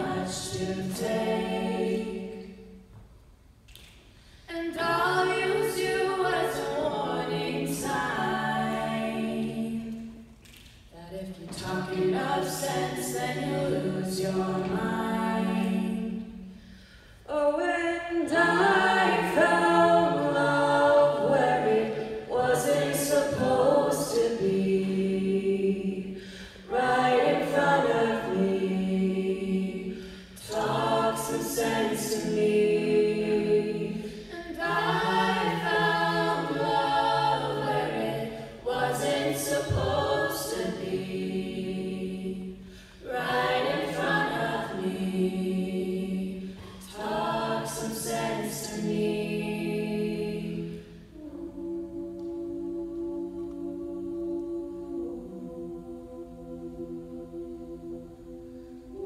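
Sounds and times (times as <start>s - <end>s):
sustained backing harmonies: 0.0s - 59.0s.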